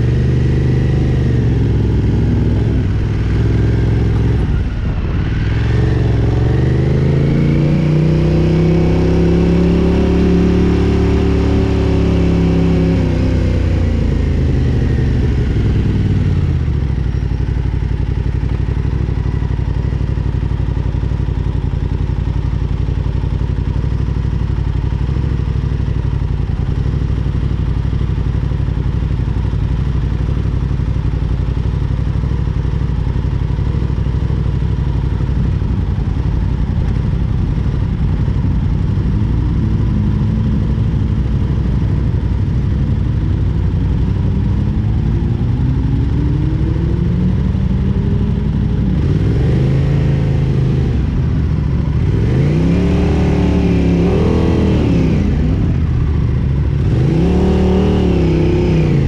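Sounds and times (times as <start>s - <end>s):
motorcycle engine revving: 0.0s - 59.0s
motorcycle engines idling: 0.0s - 59.0s.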